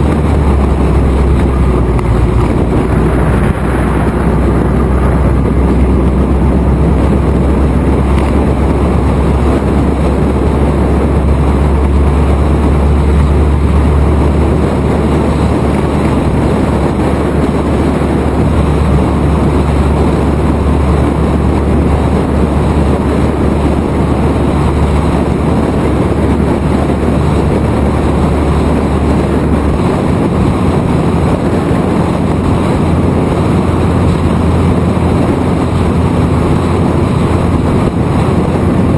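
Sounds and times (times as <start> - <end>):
race car engine drone: 0.0 - 38.9
wind rush on microphone: 0.0 - 38.9.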